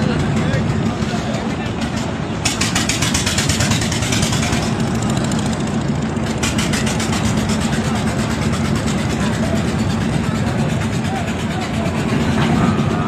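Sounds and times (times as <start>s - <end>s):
boat engine humming and clattering: 0.0s - 13.0s.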